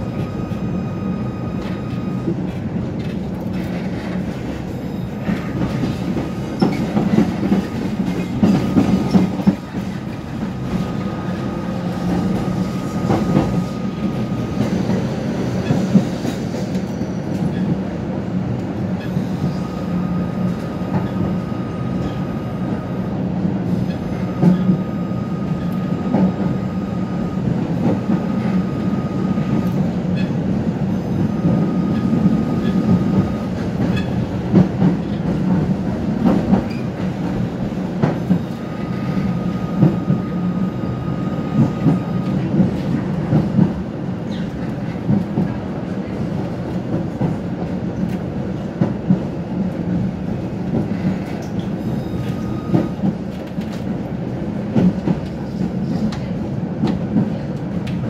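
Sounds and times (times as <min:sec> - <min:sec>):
tram wheels rumbling: 0:00.0 - 0:58.0.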